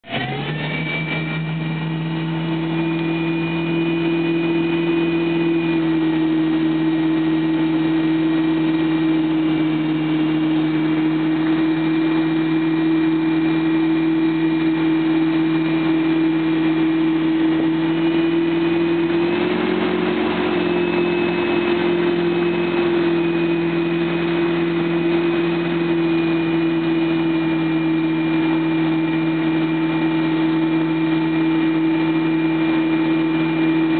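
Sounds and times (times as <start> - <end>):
motorboat engine droning: 0.0 - 33.9.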